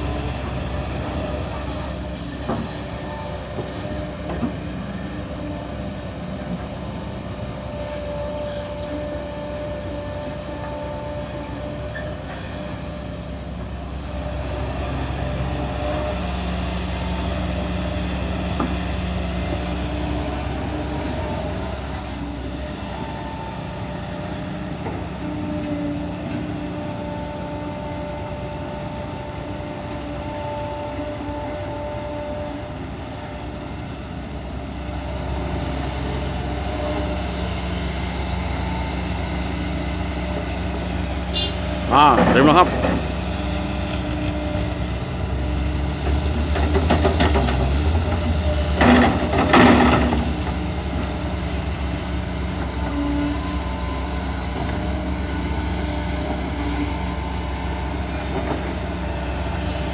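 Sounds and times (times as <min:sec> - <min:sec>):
excavator diesel drone: 0:00.0 - 0:59.9.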